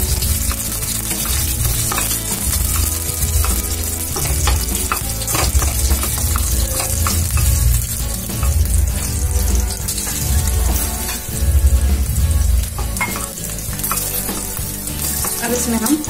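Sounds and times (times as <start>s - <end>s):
spatula stirring in pan: 0.0s - 15.8s
food sizzling in hot oil: 0.0s - 16.0s.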